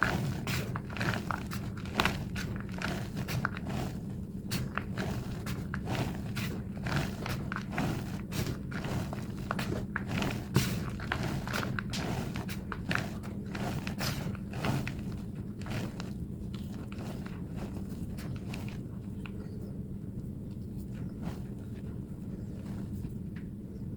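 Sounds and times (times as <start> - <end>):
chalk crunching and squeaking: 0.0 - 19.7
steady low hum: 0.0 - 23.9.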